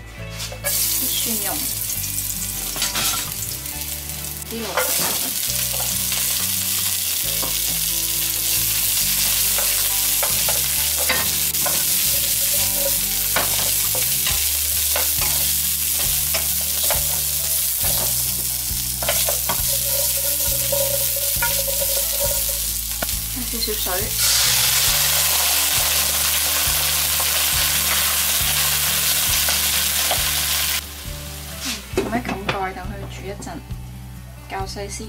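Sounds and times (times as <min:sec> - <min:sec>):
vegetables sizzling in hot oil: 0:00.6 - 0:31.8.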